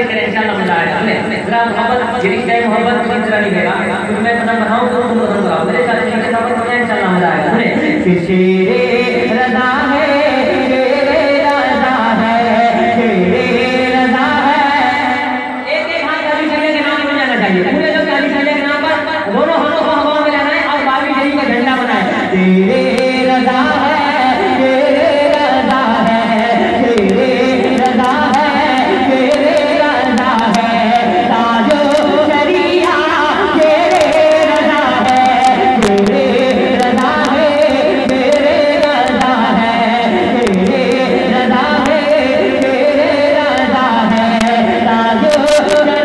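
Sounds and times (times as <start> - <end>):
man singing into a microphone: 0.0 - 46.0.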